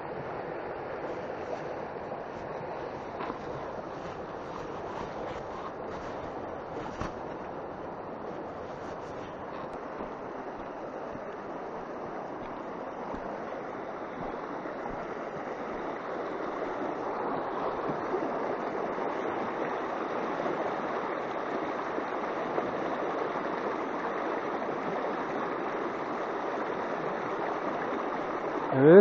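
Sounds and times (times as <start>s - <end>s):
river rushing over stones: 0.0s - 29.0s.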